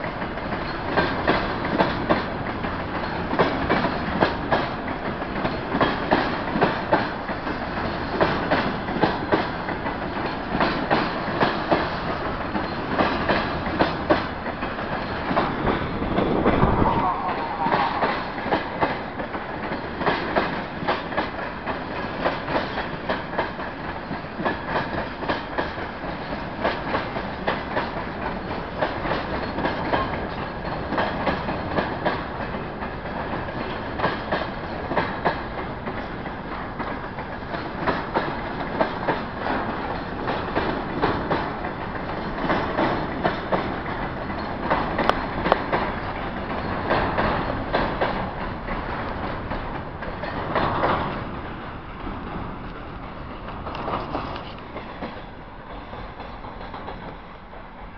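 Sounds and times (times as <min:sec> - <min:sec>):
wheels clicking over rail joints: 0:00.0 - 0:16.8, 0:17.4 - 0:57.6
steel wheels rumbling: 0:00.0 - 0:57.9.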